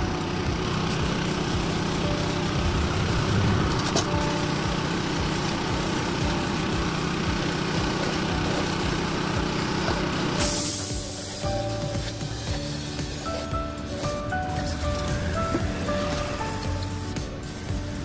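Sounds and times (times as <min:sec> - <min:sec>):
small motor running: 0:00.0 - 0:18.0.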